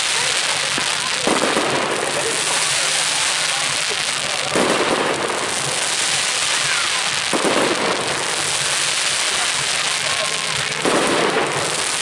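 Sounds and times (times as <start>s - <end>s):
fireworks crackling and fizzing: 0.0s - 12.0s
loud firework bursts: 0.0s - 12.0s.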